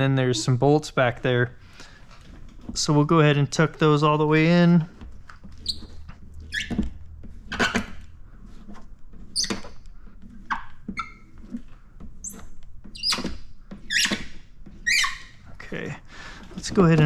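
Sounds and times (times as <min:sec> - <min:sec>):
film squeaking and rubbing: 0:00.0 - 0:17.0.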